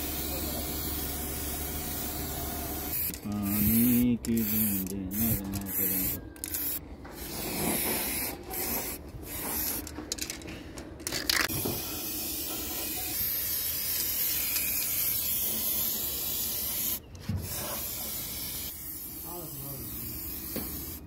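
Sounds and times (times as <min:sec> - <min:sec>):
spray paint can hissing: 0:00.0 - 0:10.2, 0:11.3 - 0:21.0.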